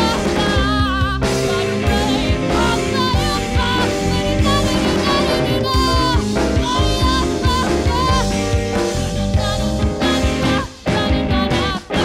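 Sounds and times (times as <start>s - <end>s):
rock band playing: 0.0s - 12.0s
woman singing: 0.0s - 12.0s.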